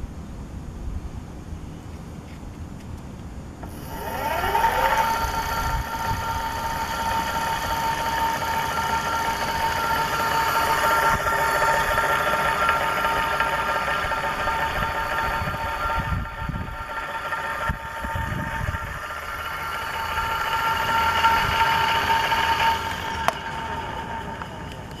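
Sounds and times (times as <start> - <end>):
hub motor whine: 3.4 - 25.0.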